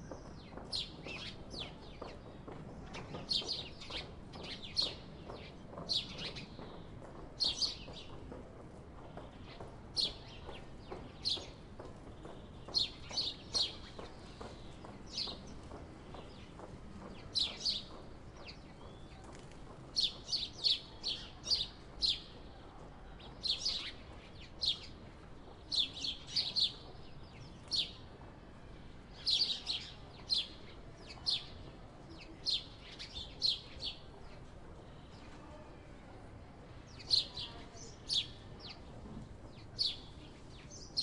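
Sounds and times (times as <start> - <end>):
sparrows chirping: 0.0 - 8.3, 9.0 - 28.3, 29.0 - 41.0.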